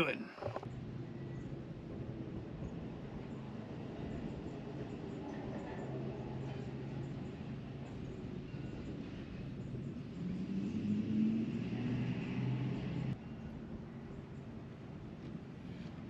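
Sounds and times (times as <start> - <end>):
faint wind: 0.0 - 16.0.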